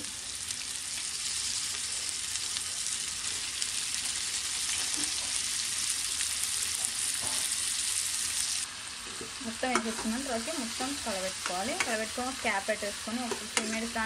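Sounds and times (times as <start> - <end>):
oil sizzling in a pan: 0.0 - 14.0.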